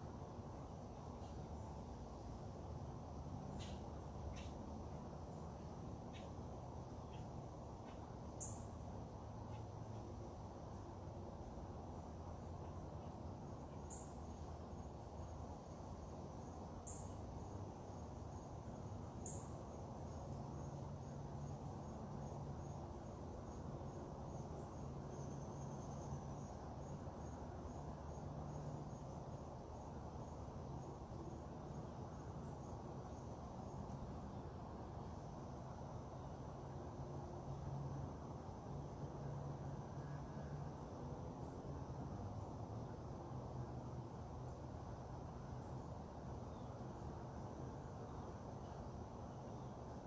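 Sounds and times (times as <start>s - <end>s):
insects chirping: 0.0s - 50.0s
low background hum: 0.0s - 50.0s.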